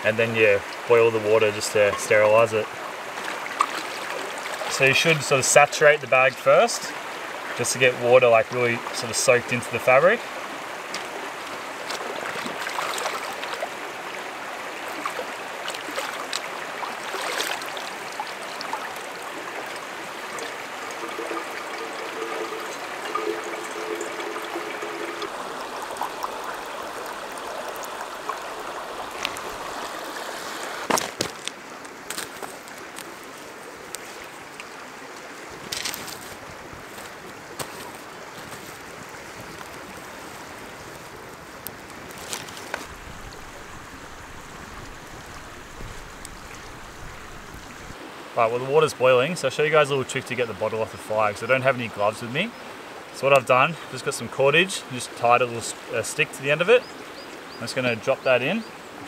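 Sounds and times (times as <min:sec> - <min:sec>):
river running over rocks: 0:00.0 - 0:59.0
water trickling and splashing: 0:00.0 - 0:59.0.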